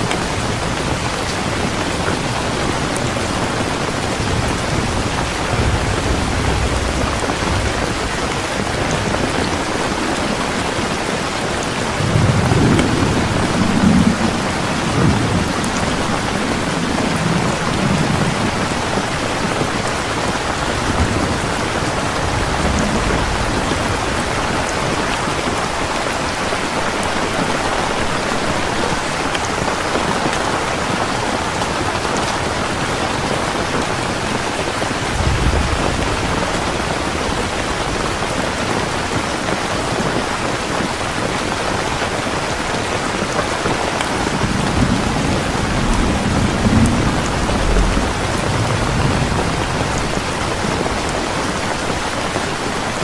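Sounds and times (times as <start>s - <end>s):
heavy rain: 0.0s - 53.0s
thunder rumbling: 0.0s - 53.0s.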